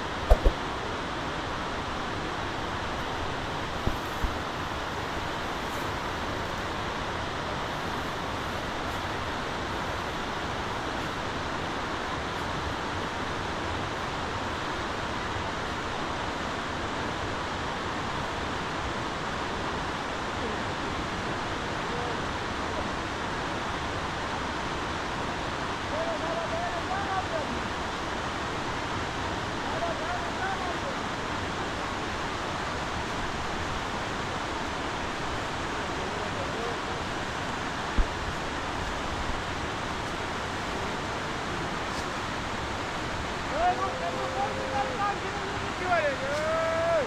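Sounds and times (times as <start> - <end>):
steady rushing noise: 0.0 - 28.1, 28.8 - 47.0.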